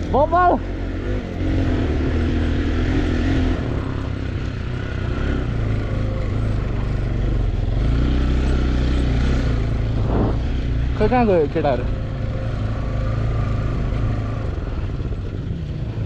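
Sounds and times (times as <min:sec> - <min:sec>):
motorcycle engine under load: 0:00.0 - 0:16.0.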